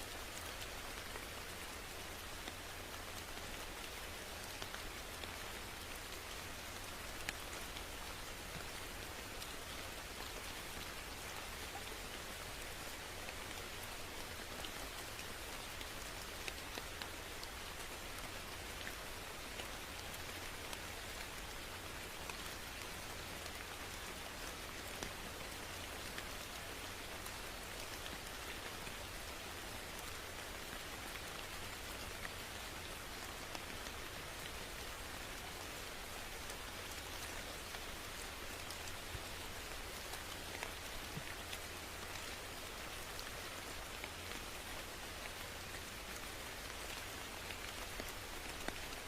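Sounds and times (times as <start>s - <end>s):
steady rainfall: 0.0s - 49.0s.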